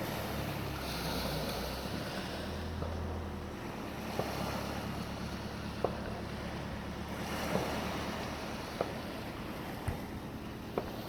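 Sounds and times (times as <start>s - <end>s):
sea waves: 0.0s - 11.0s.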